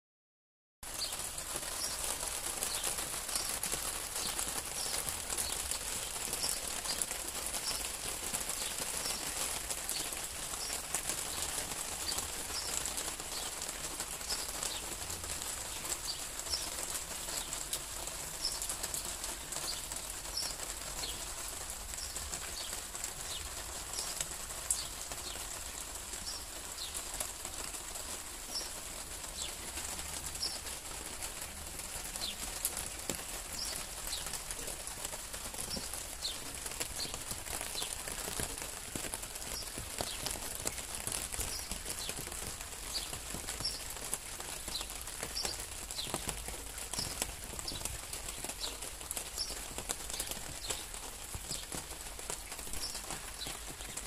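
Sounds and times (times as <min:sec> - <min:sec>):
steady rain: 0:00.8 - 0:54.0.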